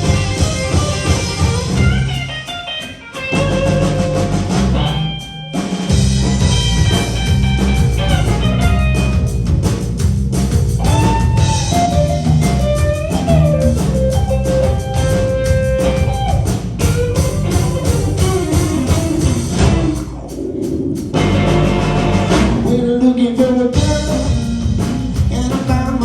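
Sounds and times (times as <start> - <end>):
blues band playing: 0.0 - 26.0.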